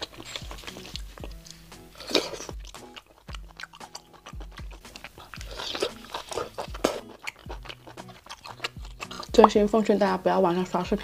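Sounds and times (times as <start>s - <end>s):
background music with a beat: 0.0s - 9.7s
wet chewing and biting: 0.0s - 10.0s.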